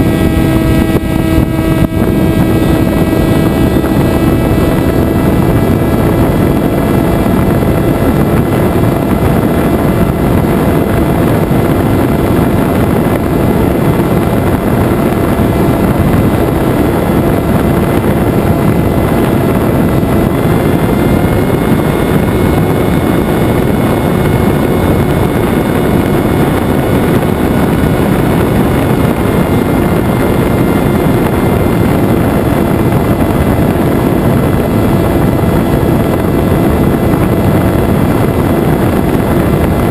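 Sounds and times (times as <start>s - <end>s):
electric motor and propeller whine: 0.0s - 39.9s
rushing air noise: 0.0s - 39.9s.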